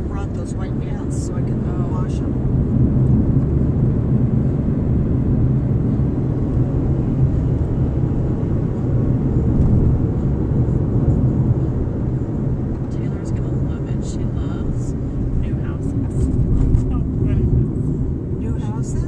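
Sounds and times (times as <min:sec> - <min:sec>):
road and wind noise in car: 0:00.0 - 0:19.0.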